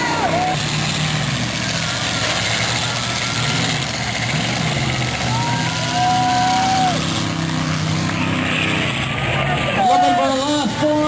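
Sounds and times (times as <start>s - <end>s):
car engines droning: 0.0s - 11.0s.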